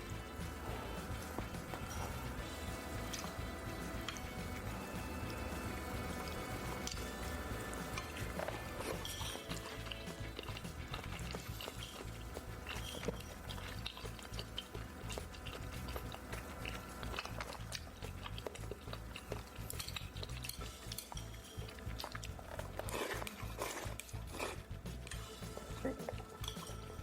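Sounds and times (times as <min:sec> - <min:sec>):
chewing: 0:00.0 - 0:27.0
faint background music: 0:00.0 - 0:27.0
utensils clicking against a bowl: 0:00.0 - 0:27.0.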